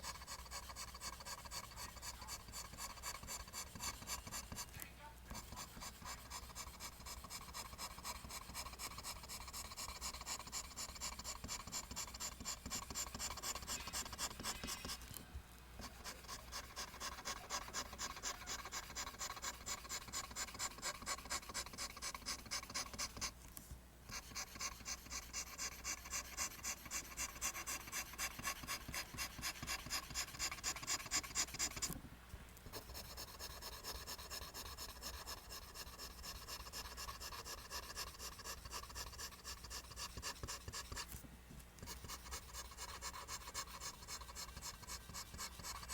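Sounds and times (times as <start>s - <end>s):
pencil scratching on paper: 0.0s - 15.2s, 15.8s - 23.4s, 24.1s - 32.0s, 32.7s - 41.2s, 41.8s - 45.9s.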